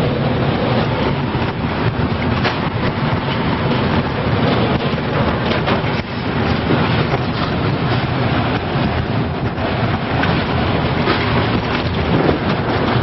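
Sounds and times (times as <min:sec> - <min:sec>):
roar of storm wind: 0:00.0 - 0:13.0.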